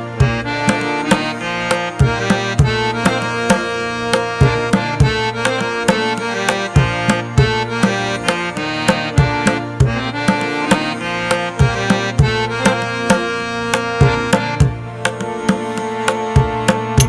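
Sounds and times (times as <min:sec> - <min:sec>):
music with sharp drum hits: 0:00.2 - 0:17.0.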